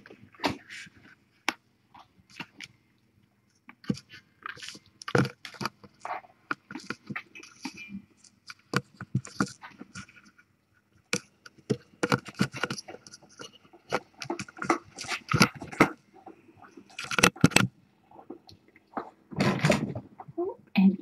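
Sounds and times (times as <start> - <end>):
kittens clicking and scraping: 3.5 - 20.4.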